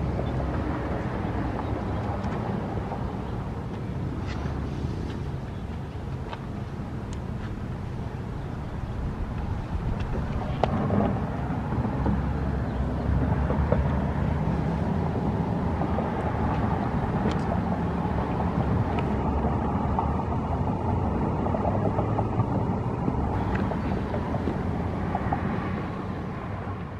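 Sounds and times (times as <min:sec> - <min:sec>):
low outdoor rumble: 0:00.0 - 0:26.9.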